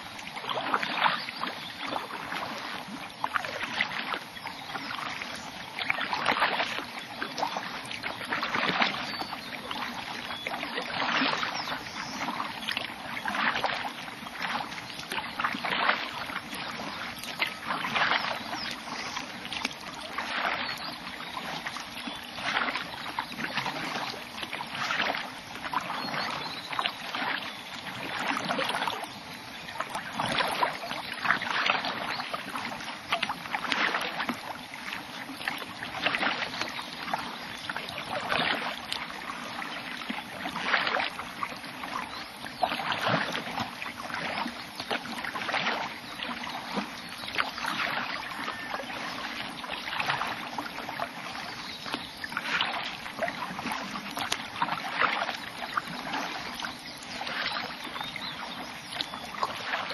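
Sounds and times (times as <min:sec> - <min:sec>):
kayak paddle splashing: 0:00.0 - 0:59.9.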